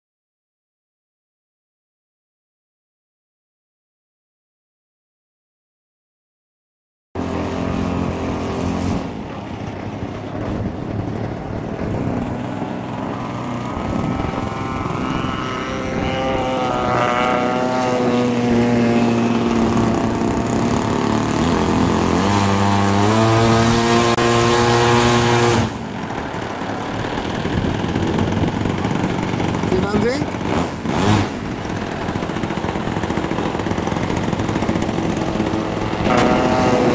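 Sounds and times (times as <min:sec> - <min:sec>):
model plane motor droning: 0:07.2 - 0:36.9.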